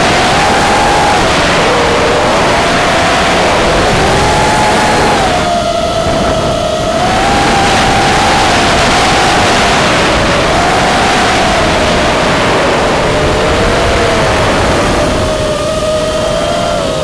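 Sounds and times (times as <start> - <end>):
drone motor whine: 0.0 - 17.0
prop wash and wind noise: 0.0 - 17.0.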